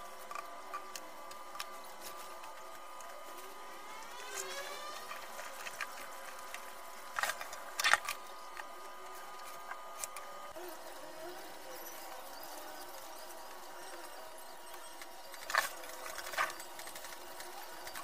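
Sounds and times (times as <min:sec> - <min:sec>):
faint rising whine: 0:00.0 - 0:18.0
steady faint hum: 0:00.0 - 0:18.0.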